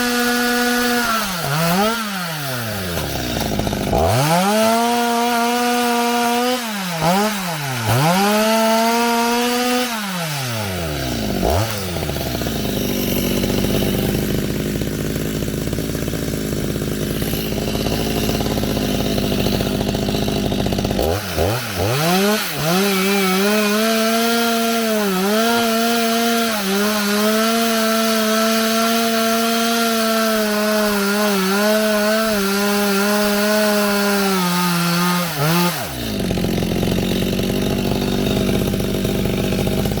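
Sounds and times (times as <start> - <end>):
chainsaw engine revving and idling: 0.0 - 40.0.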